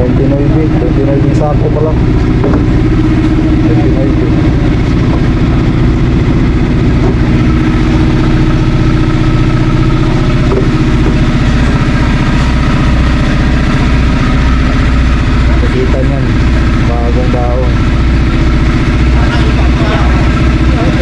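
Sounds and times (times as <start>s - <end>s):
large engine idling: 0.0s - 21.0s.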